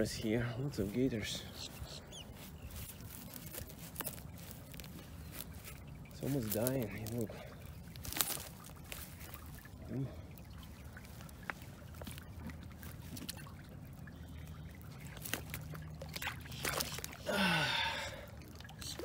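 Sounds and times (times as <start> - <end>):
water trickling and sloshing: 0.0 - 19.0.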